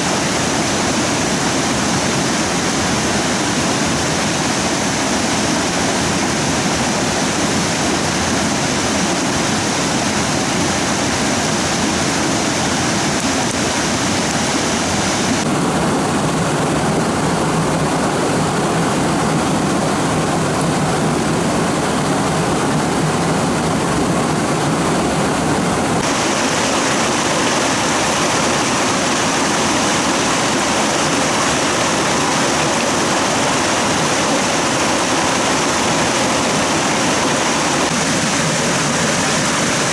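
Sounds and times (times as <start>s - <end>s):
fast-flowing stream rushing: 0.0s - 39.9s.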